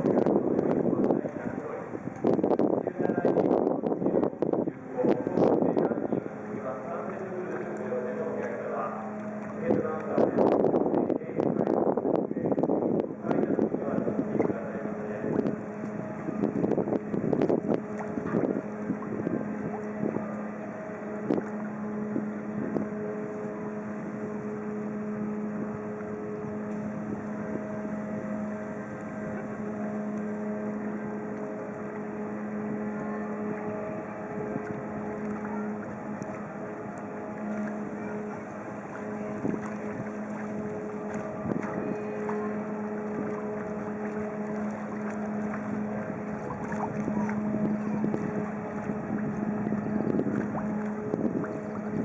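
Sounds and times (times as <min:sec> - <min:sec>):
ship engine humming: 0:00.0 - 0:52.0
wash of noise: 0:00.0 - 0:52.0.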